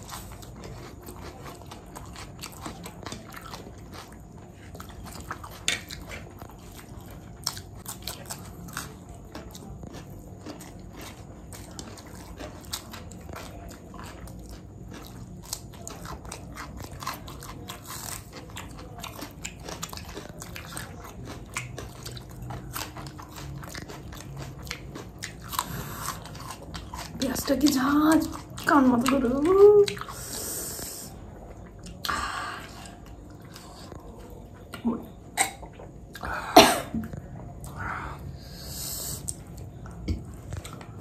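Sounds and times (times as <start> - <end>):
person chewing and crunching: 0.0 - 41.0.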